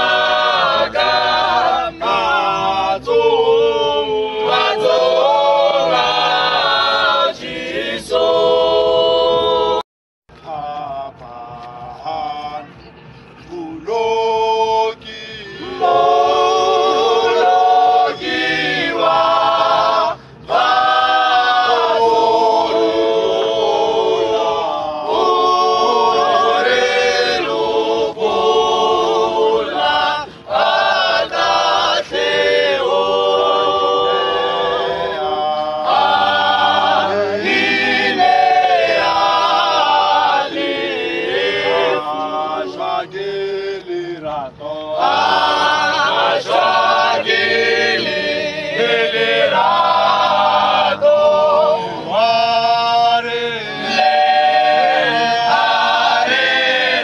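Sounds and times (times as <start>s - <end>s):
male a cappella group singing: 0.0s - 57.0s.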